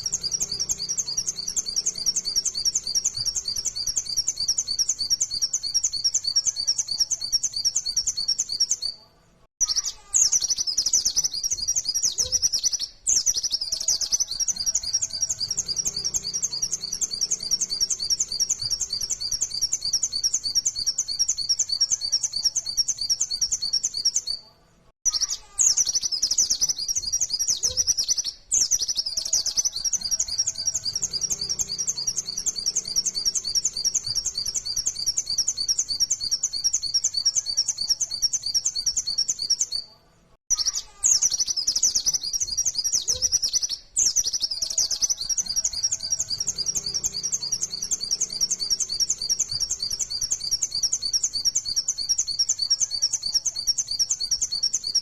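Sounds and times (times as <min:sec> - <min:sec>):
bird high-pitched chattering song: 0:00.0 - 0:09.0, 0:09.6 - 0:24.4, 0:25.1 - 0:39.9, 0:40.5 - 0:55.0.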